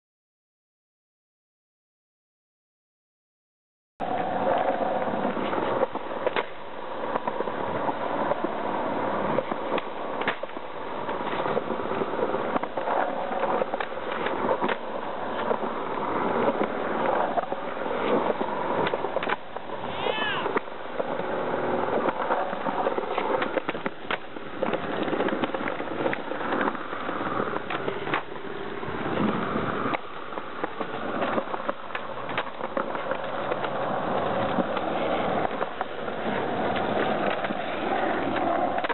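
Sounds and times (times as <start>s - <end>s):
skateboard clacks: 4.0s - 38.9s
skateboard wheels rolling on asphalt: 4.0s - 38.9s.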